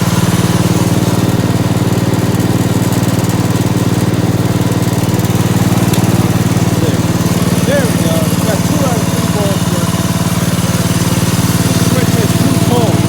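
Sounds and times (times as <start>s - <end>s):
garden tractor engine running: 0.0s - 13.0s.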